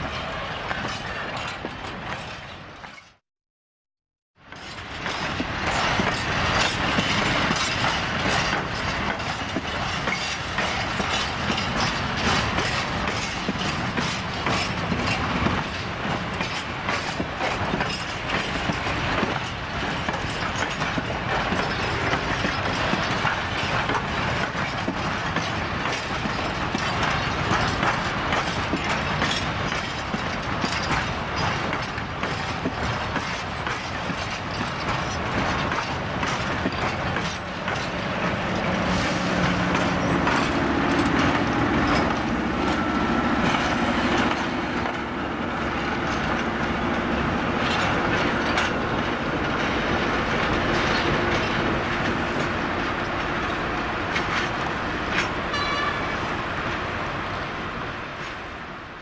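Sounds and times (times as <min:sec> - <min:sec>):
train wheels clattering over rail joints: 0:00.0 - 0:03.2, 0:04.5 - 0:56.1.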